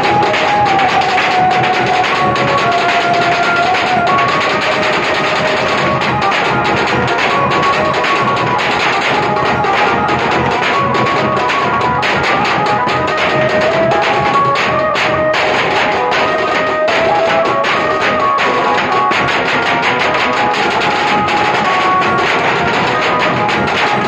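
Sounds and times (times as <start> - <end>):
drum troupe drumming: 0.0 - 24.0.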